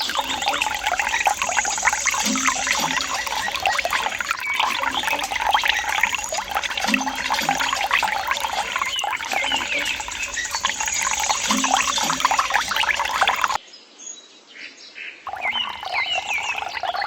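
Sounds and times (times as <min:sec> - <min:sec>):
birds chirping: 0:00.0 - 0:13.6, 0:15.3 - 0:17.0
water trickling and splashing: 0:00.0 - 0:13.6, 0:15.3 - 0:17.0.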